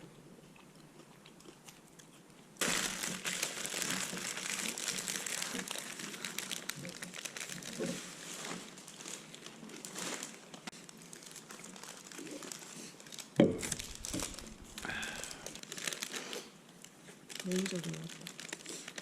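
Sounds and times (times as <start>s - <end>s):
crinkling and rustling: 2.0s - 19.0s.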